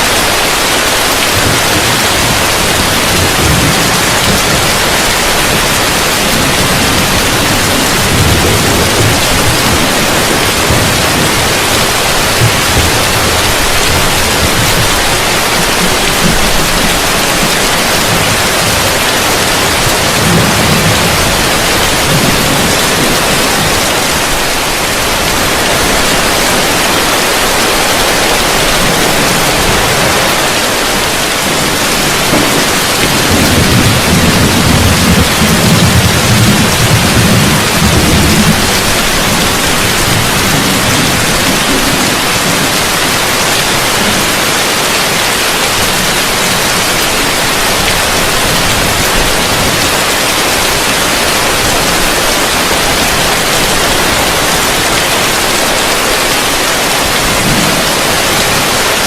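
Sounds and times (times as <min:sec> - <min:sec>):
heavy rain on a roof: 0:00.0 - 0:59.0
low thunder rumbling: 0:00.1 - 0:59.0.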